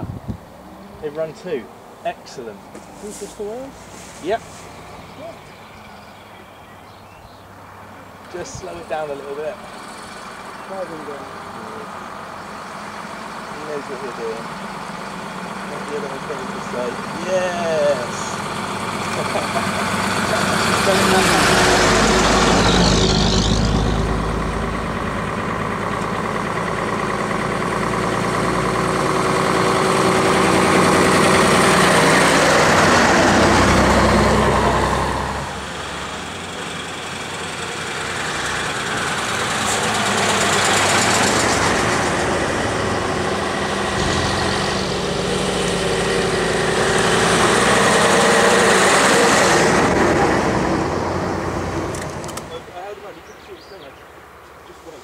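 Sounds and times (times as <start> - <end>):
buses driving past: 0.0 - 55.0.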